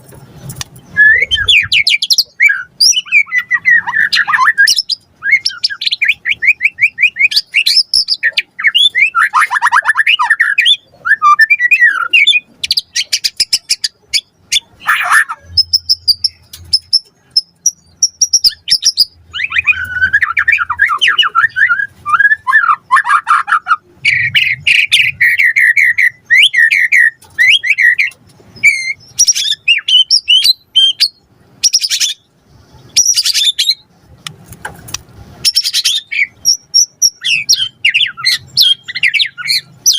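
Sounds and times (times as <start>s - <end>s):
bird singing trills and whistles: 0.8s - 33.9s, 35.4s - 39.9s.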